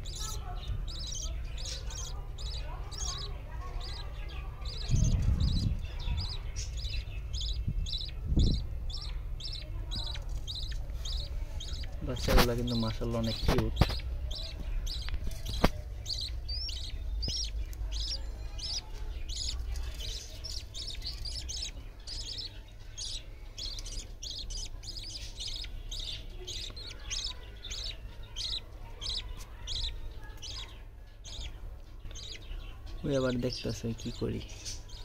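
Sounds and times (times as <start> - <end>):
budgerigars chirping: 0.0 - 35.0.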